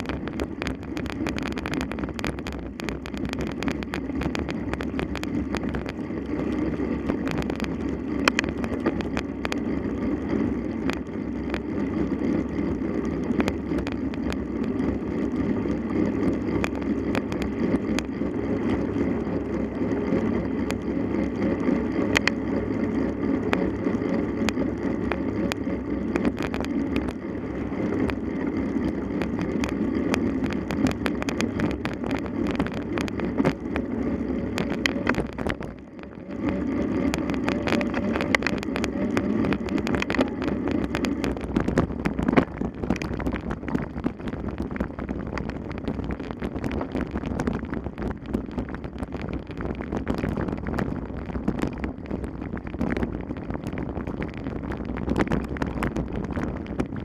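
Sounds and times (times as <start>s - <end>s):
mountain bike rattling over rough ground: 0.0s - 57.0s
wind rushing over microphone: 0.0s - 57.0s.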